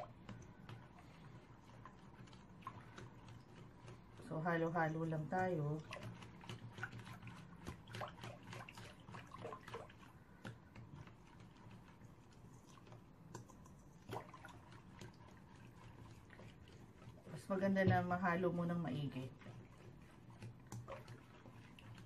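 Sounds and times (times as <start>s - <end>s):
whisk clicking and scraping bowl: 0.0s - 22.0s.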